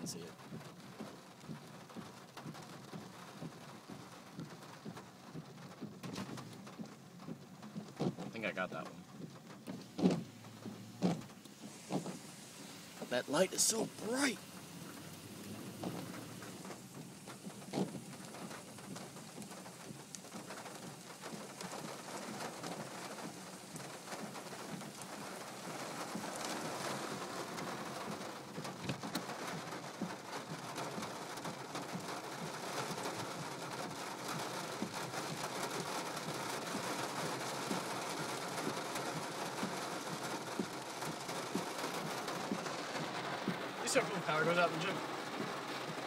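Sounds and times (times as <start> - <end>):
rain on car roof: 0.0 - 46.0
sharp raindrop hits: 0.0 - 46.0.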